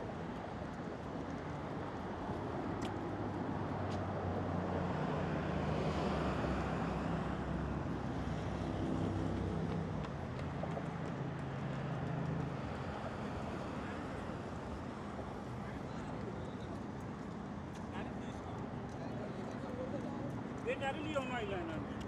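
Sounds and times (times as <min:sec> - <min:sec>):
passing traffic: 0:00.0 - 0:22.0.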